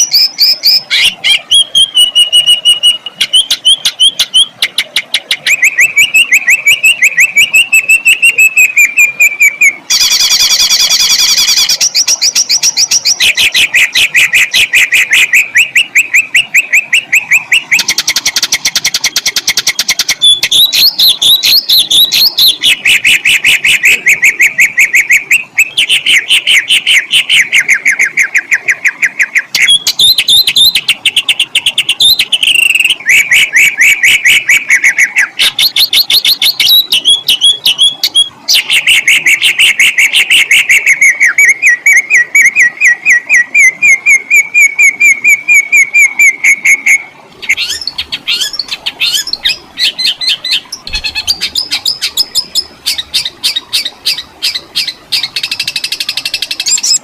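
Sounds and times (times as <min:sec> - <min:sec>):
songbird singing trills: 0:00.0 - 0:57.0.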